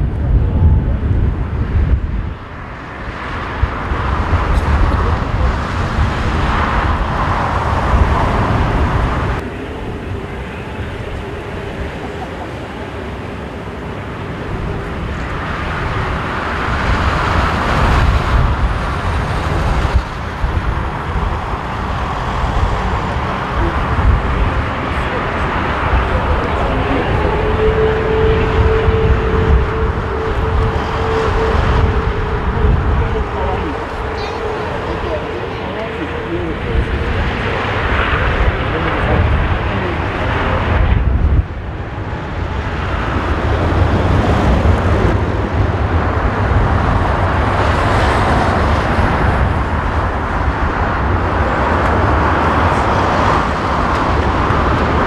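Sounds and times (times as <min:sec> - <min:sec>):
jet engines roaring at take-off: 0:00.0 - 0:55.0.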